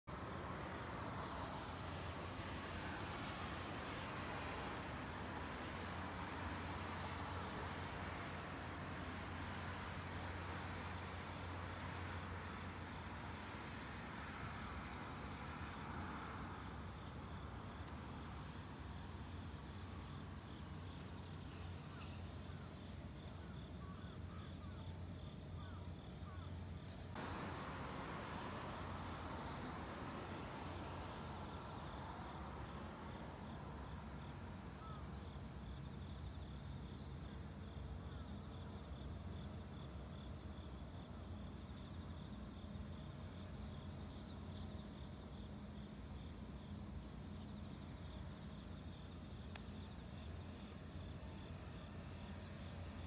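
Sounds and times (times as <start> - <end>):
insects chirring: 0.2 - 53.0.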